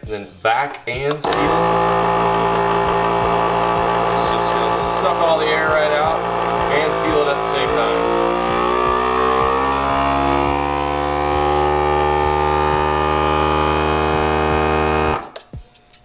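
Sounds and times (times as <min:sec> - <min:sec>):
vacuum sealer pump whine: 0:01.2 - 0:15.4.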